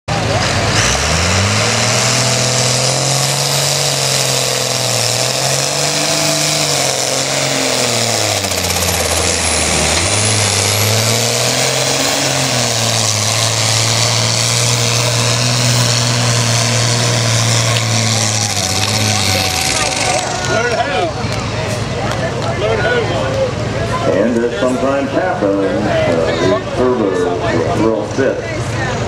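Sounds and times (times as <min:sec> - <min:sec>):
tractor diesel engine under load: 0:00.1 - 0:29.0.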